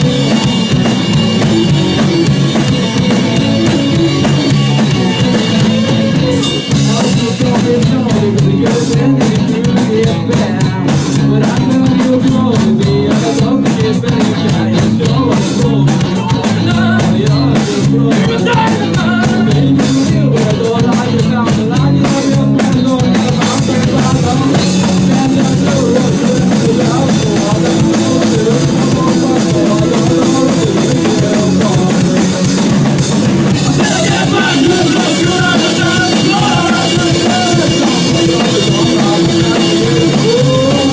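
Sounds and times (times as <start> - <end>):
drum kit beat: 0.0 - 40.9
rock band playing live: 0.0 - 40.9.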